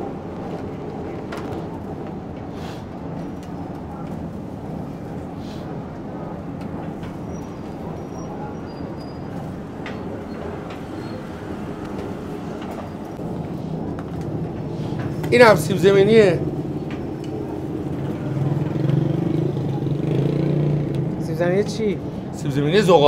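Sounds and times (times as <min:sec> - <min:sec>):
busy kitchen rumble: 0:00.0 - 0:23.0.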